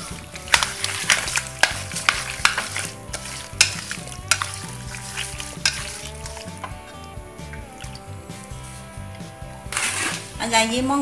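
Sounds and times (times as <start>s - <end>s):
wet squelching of meat by hand: 0.0s - 10.4s.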